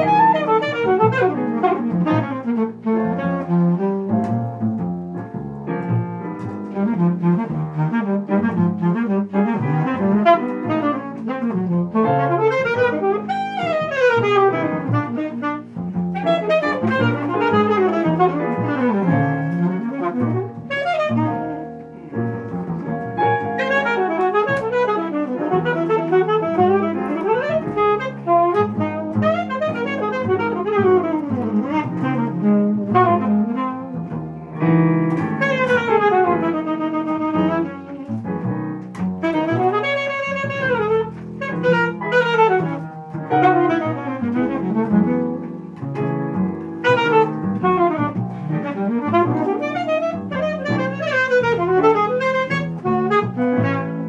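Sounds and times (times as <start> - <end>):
alto saxophone playing jazz: 0.0 - 54.0.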